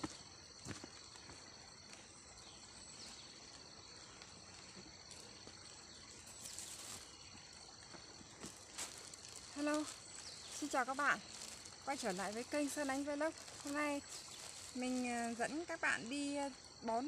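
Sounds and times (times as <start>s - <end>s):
insects trilling: 0.0s - 17.0s
rustle: 0.0s - 17.0s.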